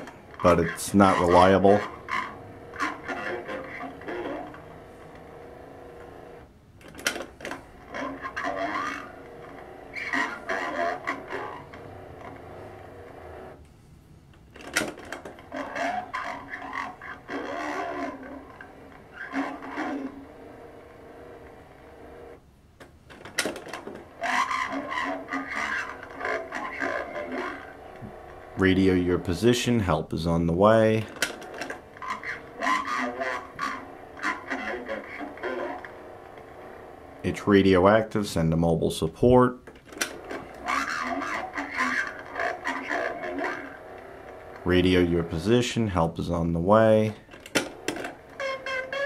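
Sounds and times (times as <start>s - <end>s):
slow drawn-out recorded voice: 0.0s - 6.5s, 7.8s - 13.6s, 15.4s - 22.1s, 24.1s - 39.6s, 40.4s - 47.3s.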